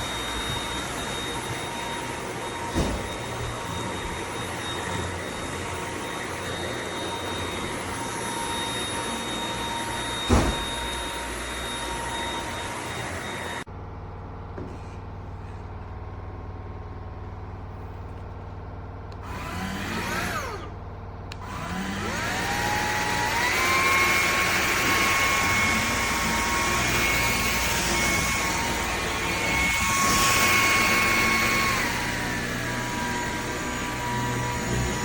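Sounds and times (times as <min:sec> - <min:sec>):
vacuum motor whine: 0:00.0 - 0:35.0.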